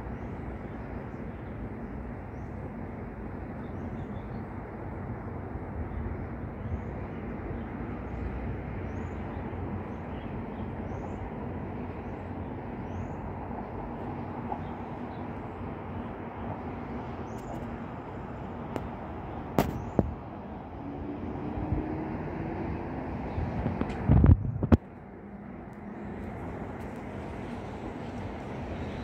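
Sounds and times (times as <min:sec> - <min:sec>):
outdoor background hum: 0:00.0 - 0:29.0.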